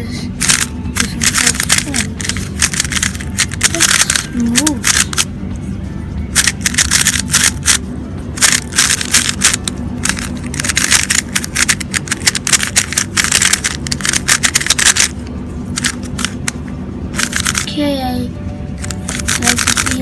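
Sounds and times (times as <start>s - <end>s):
puzzle cube clacking as turned: 0.4s - 5.3s, 6.3s - 16.6s, 17.2s - 17.7s, 18.8s - 20.0s.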